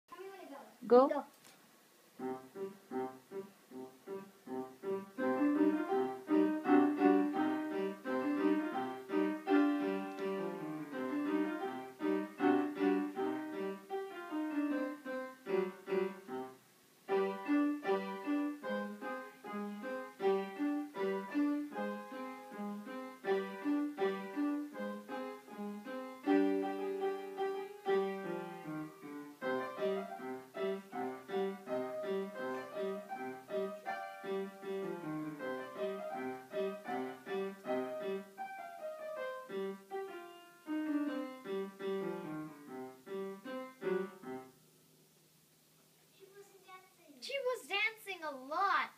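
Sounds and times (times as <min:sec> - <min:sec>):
lively piano tune: 0:02.1 - 0:44.6.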